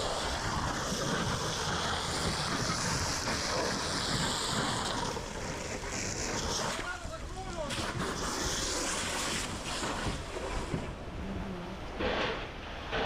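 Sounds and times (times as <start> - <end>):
hose spraying water: 0.0 - 11.0.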